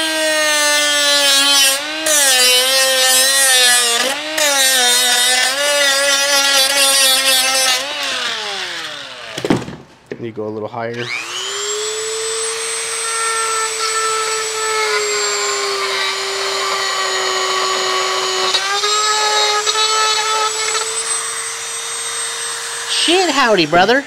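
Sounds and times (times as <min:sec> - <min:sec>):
rotary tool grinding plastic: 0:01.6 - 0:09.4, 0:11.0 - 0:24.0.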